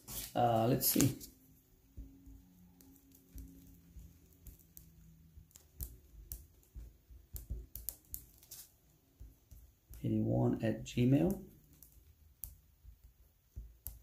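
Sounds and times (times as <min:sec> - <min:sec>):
small clicks and taps: 0:00.9 - 0:10.1, 0:11.2 - 0:14.0.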